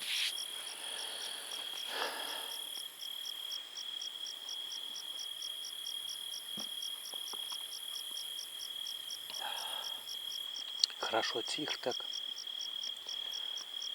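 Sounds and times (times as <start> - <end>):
cricket steady high trill: 0.0 - 13.9.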